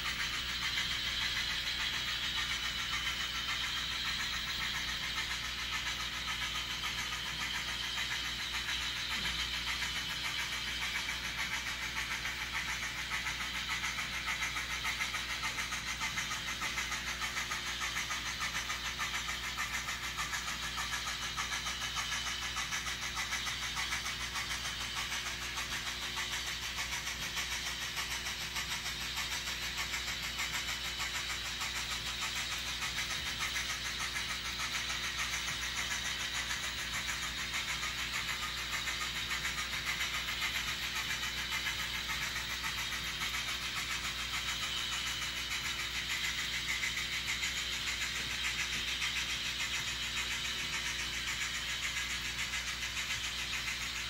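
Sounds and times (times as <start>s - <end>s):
model trains running on track: 0.0s - 54.0s.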